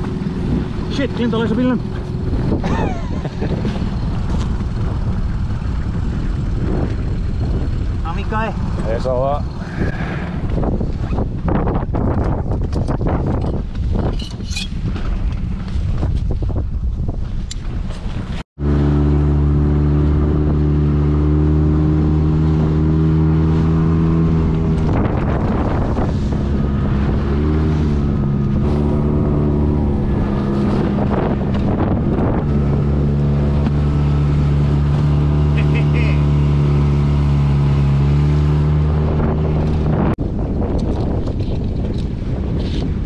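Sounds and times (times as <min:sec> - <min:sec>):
outboard motor running: 0:00.0 - 0:14.1, 0:14.7 - 0:43.0
wind buffeting microphone: 0:00.0 - 0:18.4, 0:19.4 - 0:43.0
boat through choppy water: 0:00.0 - 0:43.0.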